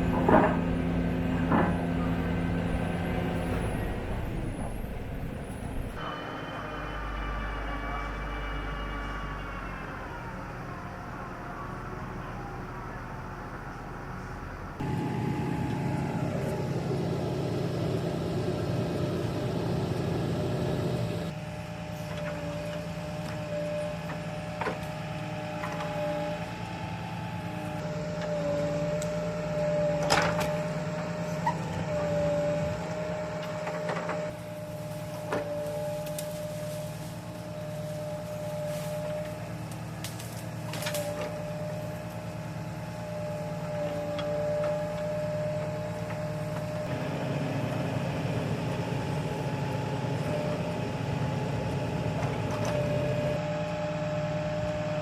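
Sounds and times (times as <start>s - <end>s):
crane engine humming and whining: 0.0s - 55.0s.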